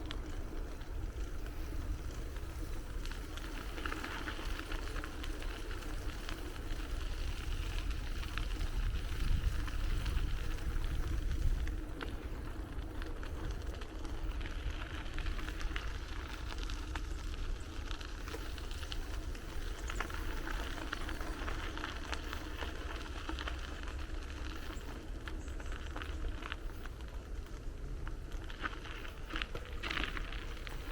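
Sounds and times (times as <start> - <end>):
bicycle tyres rolling on path: 0.0 - 30.9
wind rumble on microphone: 0.0 - 30.9.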